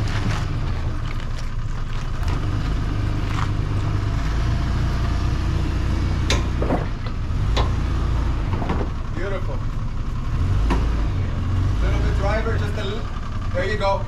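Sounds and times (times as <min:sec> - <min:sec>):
truck engine running at low revs: 0:00.0 - 0:14.0.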